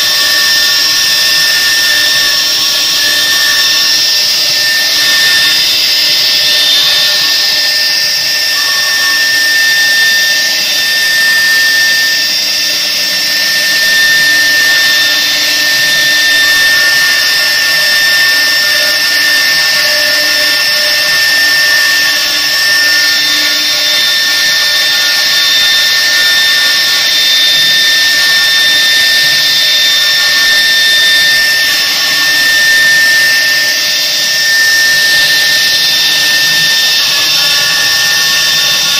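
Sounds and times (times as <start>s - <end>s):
router bits cutting wood: 0.0s - 38.9s
router spindles high-pitched whine: 0.0s - 38.9s.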